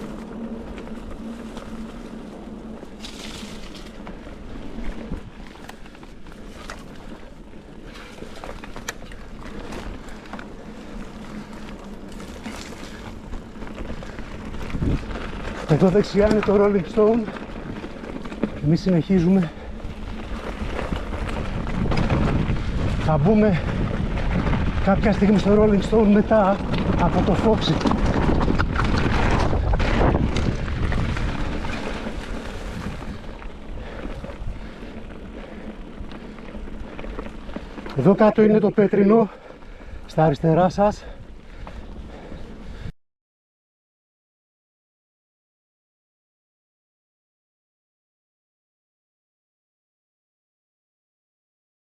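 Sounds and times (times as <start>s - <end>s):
bike clicks and rattles: 0.0s - 42.9s
bike tyres rumbling on dirt: 0.0s - 42.9s
wind: 0.0s - 43.0s.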